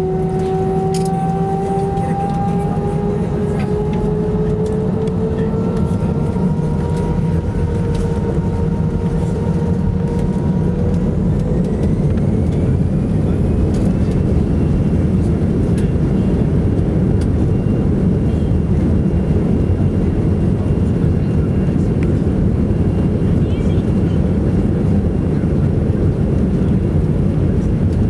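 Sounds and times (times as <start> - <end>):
jet engine whine rising: 0.0 - 23.9
airplane cabin roar: 0.0 - 28.0.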